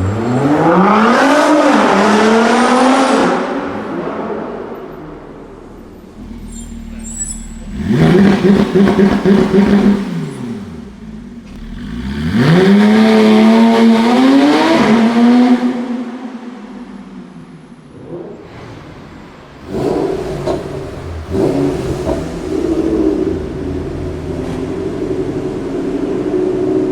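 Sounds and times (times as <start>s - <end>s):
car engine revving in tunnel: 0.0s - 26.9s.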